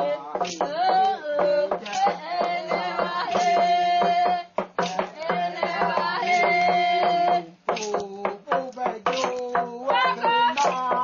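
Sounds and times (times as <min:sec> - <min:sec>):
voices chanting together: 0:00.0 - 0:08.3, 0:09.2 - 0:11.0
rhythmic knocks: 0:00.0 - 0:11.0.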